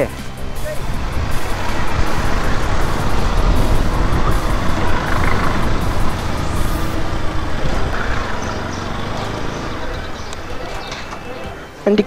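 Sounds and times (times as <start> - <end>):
wind rushing over microphone: 0.0 - 11.7
motorcycle engine rumble: 0.0 - 12.0.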